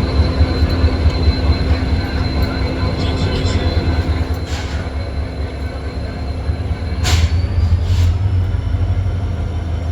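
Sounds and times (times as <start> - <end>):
locomotive engines humming: 0.0 - 9.9.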